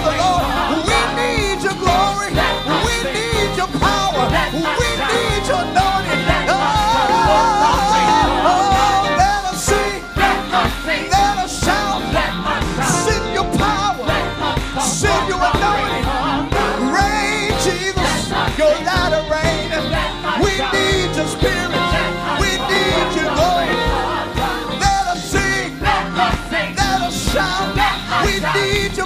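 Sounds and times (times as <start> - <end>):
gospel choir singing: 0.0 - 29.0
steady drum beat: 0.0 - 29.0.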